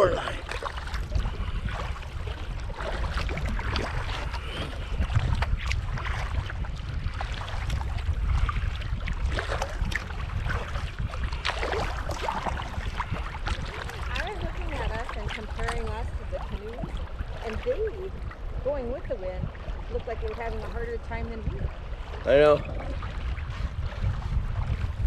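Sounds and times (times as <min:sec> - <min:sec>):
water splashing around kayak: 0:00.0 - 0:25.0
wind rumble on microphone: 0:00.0 - 0:25.0.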